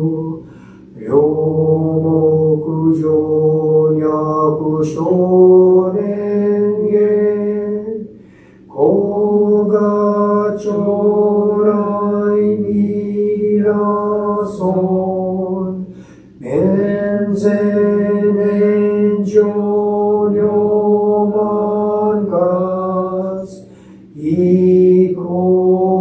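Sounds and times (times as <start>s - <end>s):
man chanting in monotone: 0.0s - 26.0s.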